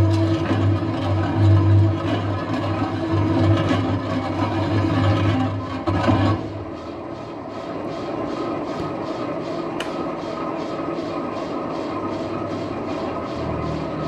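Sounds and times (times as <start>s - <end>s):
lathe machining with regular beat: 0.0s - 14.0s.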